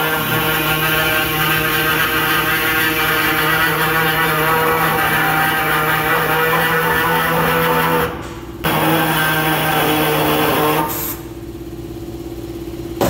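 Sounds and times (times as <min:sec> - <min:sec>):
air saw cutting sheet steel: 0:00.0 - 0:11.4.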